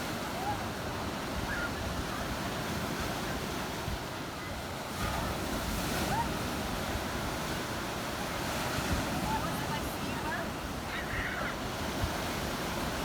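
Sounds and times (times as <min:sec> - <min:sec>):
surf washing ashore: 0:00.0 - 0:13.0.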